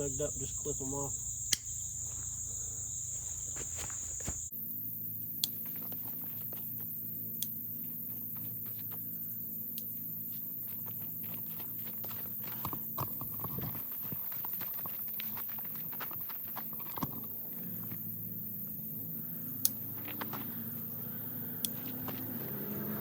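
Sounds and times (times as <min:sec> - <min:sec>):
high insect buzzing: 0:00.0 - 0:23.0.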